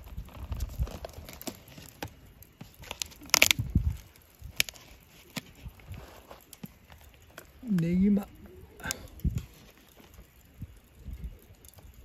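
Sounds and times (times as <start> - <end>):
charcoal crackling and popping: 0.0 - 12.0.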